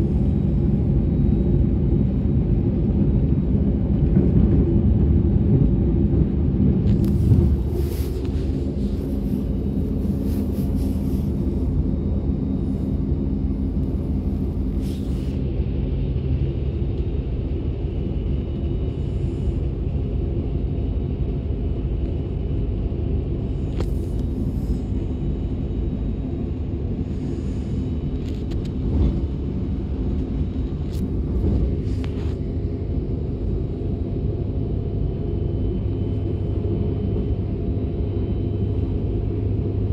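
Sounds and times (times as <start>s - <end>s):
train wheels rumbling on track: 0.0s - 37.8s.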